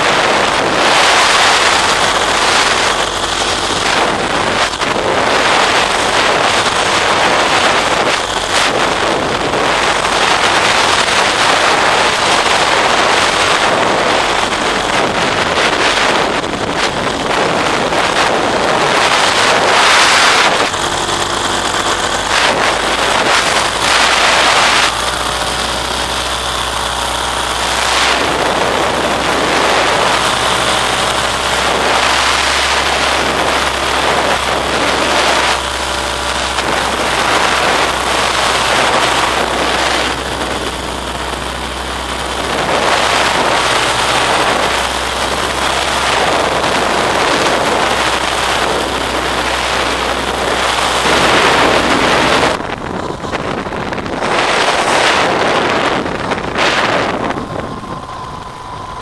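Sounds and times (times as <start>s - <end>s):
steady low hum: 0.0s - 59.0s
wind rushing over microphone: 0.0s - 59.0s.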